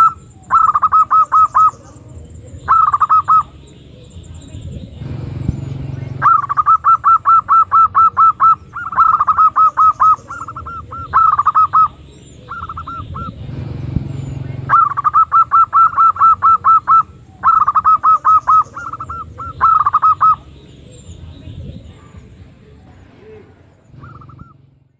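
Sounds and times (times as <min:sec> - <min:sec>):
dove calling short notes: 0:00.0 - 0:21.6, 0:23.4 - 0:24.8
steady low rumble: 0:00.0 - 0:24.9.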